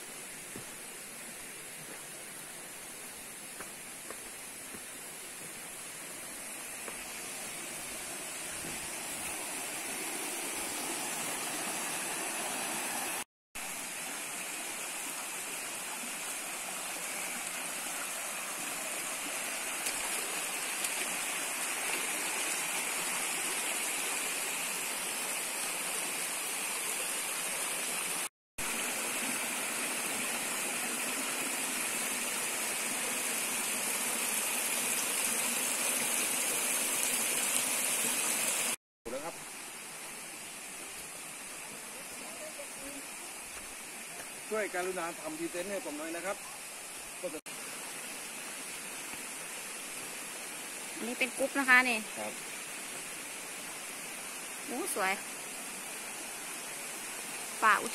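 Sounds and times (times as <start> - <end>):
stream rushing over rocks: 0.0 - 57.9.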